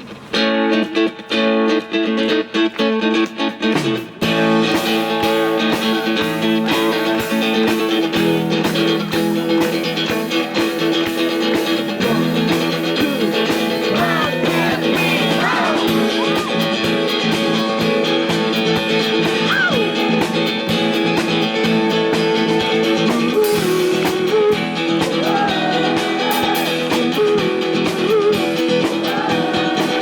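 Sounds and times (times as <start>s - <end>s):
electric guitar chords: 0.0s - 30.0s
drum beat: 3.6s - 30.0s.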